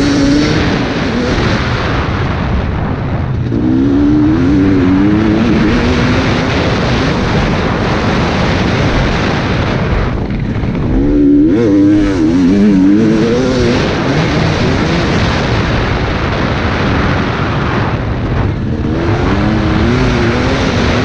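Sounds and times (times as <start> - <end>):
dirt bike engine revving: 0.0 - 2.5, 3.3 - 21.0
wind rushing over microphone: 0.0 - 21.0.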